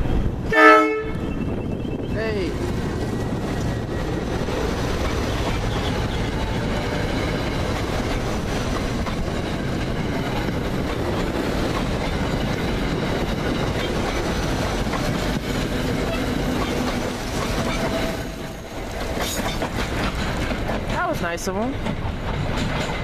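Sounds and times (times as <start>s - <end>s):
train wheels rumbling on rails: 0.0s - 23.0s
wheels clicking over rail joints: 3.0s - 23.0s.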